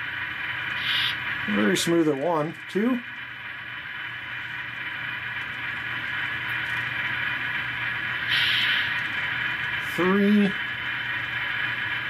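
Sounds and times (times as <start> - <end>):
model train diesel engine sound: 0.0 - 12.0.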